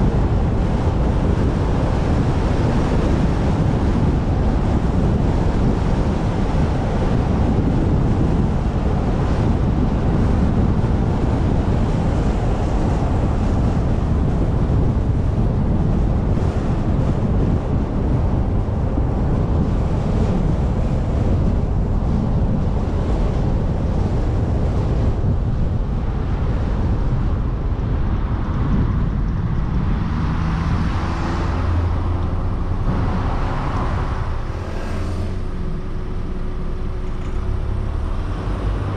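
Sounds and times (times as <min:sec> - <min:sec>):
low engine hum: 0:00.0 - 0:38.9
road and tyre noise: 0:00.0 - 0:38.9
wind buffeting microphone: 0:00.0 - 0:38.9.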